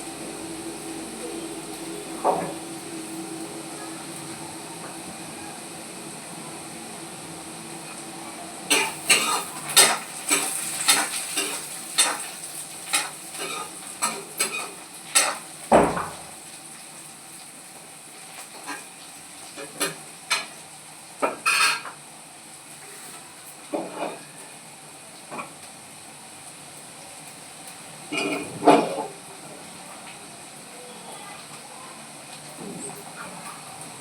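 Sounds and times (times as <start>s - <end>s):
frying sizzle: 0.0s - 34.0s.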